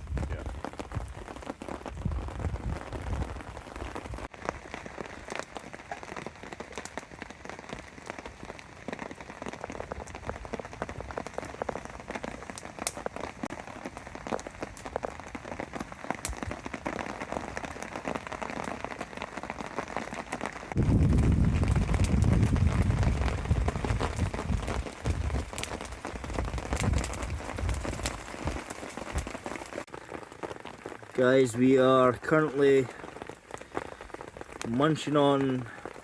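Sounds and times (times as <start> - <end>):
heavy rain on a tarp: 0.0 - 36.0.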